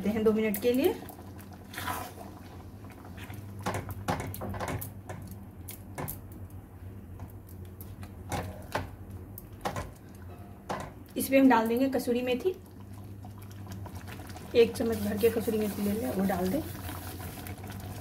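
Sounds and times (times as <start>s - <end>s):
gravy bubbling and popping: 0.0s - 18.0s.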